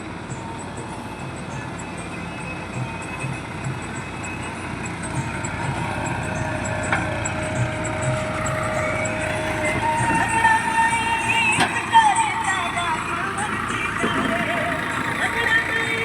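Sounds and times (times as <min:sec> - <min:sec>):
diesel engine throbbing: 0:00.0 - 0:16.0.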